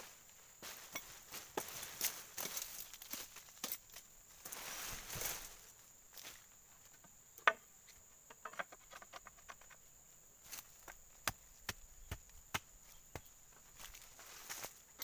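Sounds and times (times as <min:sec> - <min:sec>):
high-pitched insect whine: 0:00.0 - 0:15.0.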